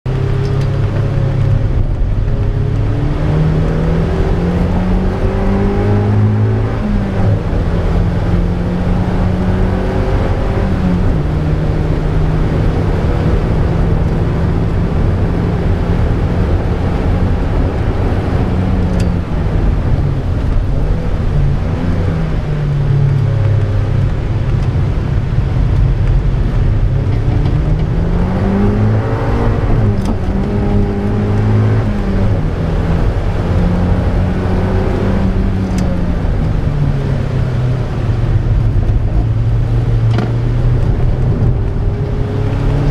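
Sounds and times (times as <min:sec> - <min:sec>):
steady rushing noise: 0:00.1 - 0:42.9
vehicle engine revving: 0:00.1 - 0:42.9.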